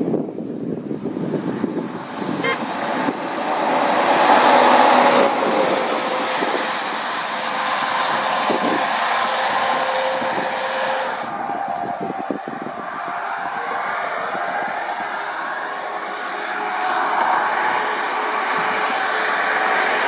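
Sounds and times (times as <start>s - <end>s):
lorry passing on wet road: 0.7s - 20.0s.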